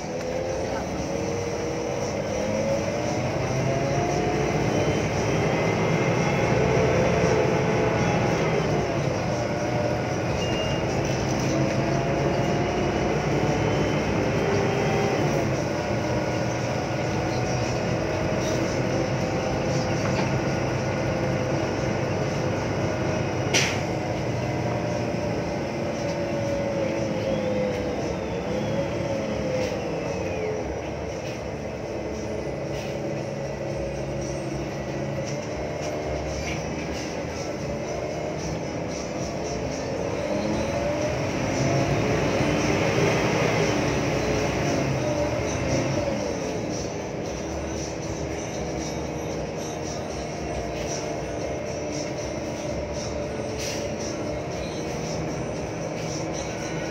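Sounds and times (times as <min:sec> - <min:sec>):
bus diesel engine: 0:00.0 - 0:56.9
gearbox whine: 0:00.0 - 0:56.9.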